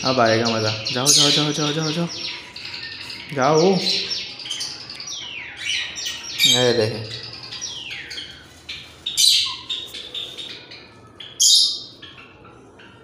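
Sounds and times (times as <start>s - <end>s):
parakeets squawking and chirping: 0.0s - 13.0s.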